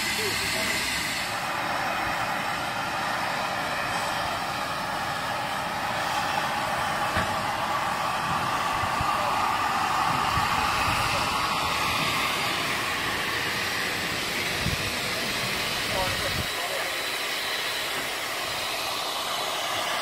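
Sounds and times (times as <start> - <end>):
steam hissing from locomotive: 0.0 - 20.0.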